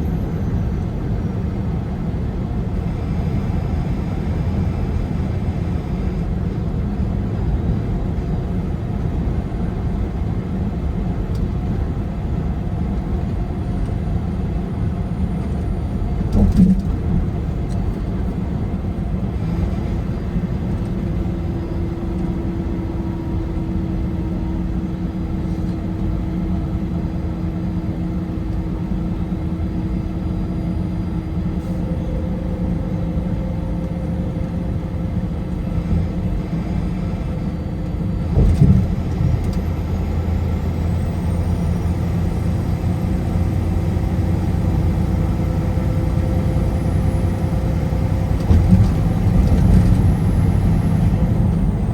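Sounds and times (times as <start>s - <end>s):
car driving on highway: 0.0s - 51.9s.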